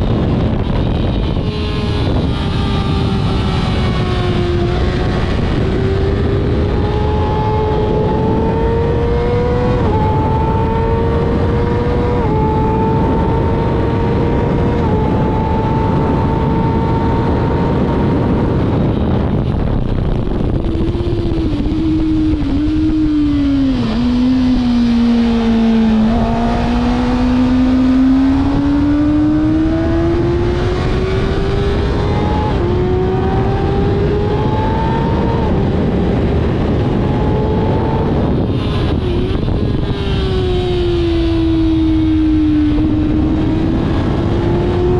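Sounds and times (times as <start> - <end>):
motorcycle engine accelerating: 0.0 - 44.9
wind rush: 0.0 - 44.9.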